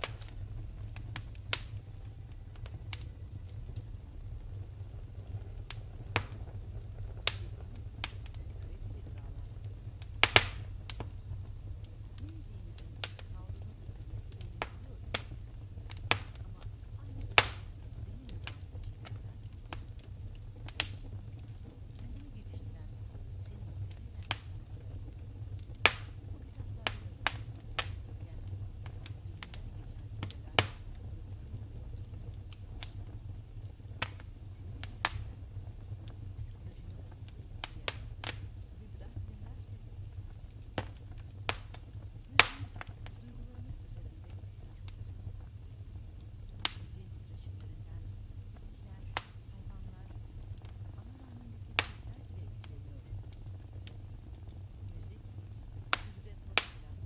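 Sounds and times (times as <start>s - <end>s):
sharp pop of fire: 0.0s - 46.9s, 47.6s - 57.0s
low steady rumble: 0.0s - 57.0s
wood fire crackling: 0.0s - 57.0s.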